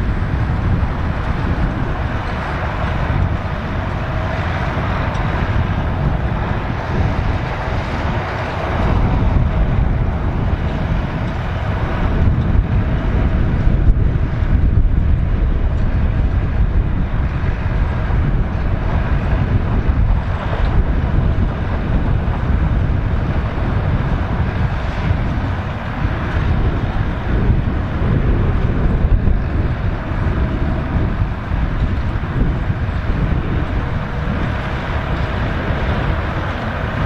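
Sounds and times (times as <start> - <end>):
tractor diesel engine running: 0.0 - 37.0
wind buffeting microphone: 0.0 - 37.0.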